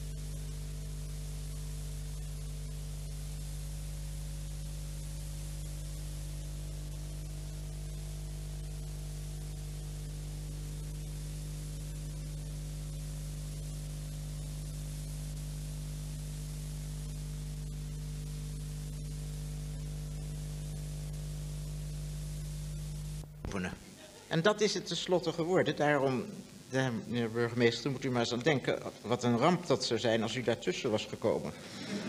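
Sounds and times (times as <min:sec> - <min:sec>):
electrical hum and hiss: 0:00.0 - 0:32.0.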